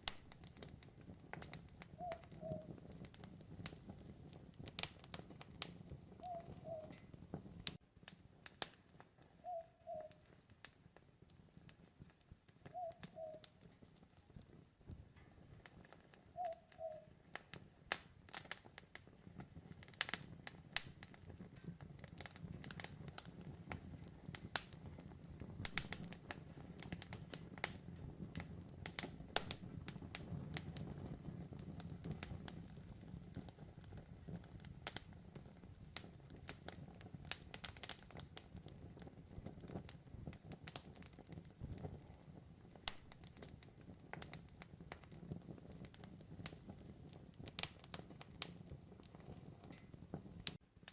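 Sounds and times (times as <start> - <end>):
low fire rumble: 0.0 - 50.9
wood fire popping and crackling: 0.0 - 50.9.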